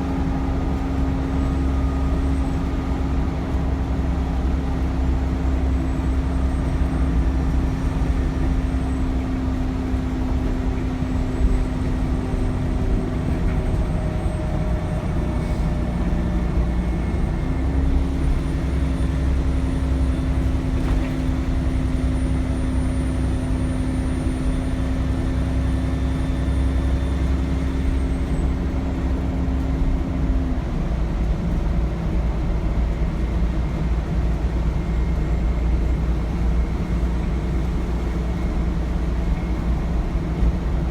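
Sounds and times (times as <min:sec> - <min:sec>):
bus engine and road drone: 0:00.0 - 0:40.9.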